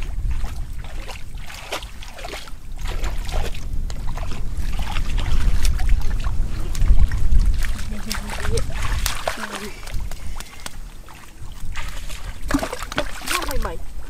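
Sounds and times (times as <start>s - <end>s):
splashes in muddy water: 0.0s - 14.0s
wind rumble on microphone: 0.0s - 14.0s.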